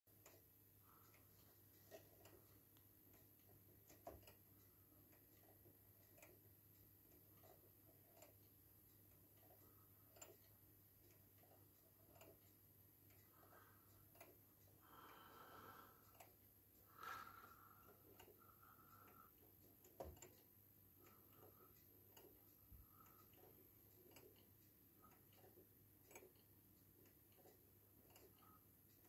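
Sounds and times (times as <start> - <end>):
pendulum clock ticking: 0.1 - 29.0
sharper clock click: 1.9 - 13.3, 17.2 - 29.0.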